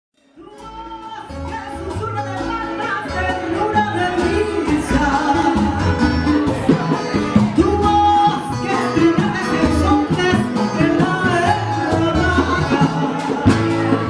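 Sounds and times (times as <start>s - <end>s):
woman singing into microphone: 0.2s - 14.0s
live band music: 0.4s - 14.0s
upright double bass: 0.4s - 14.0s.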